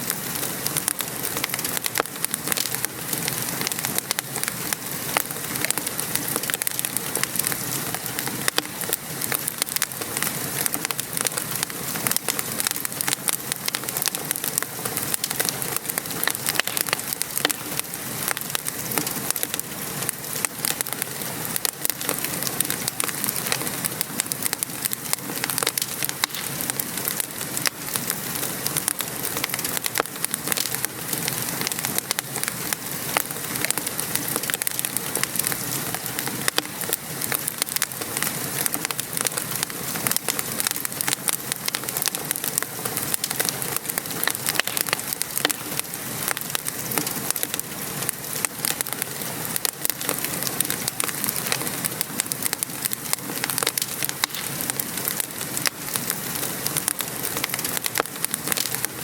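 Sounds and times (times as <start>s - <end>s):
rain falling: 0.0s - 59.0s
wood fire crackling: 0.0s - 59.0s.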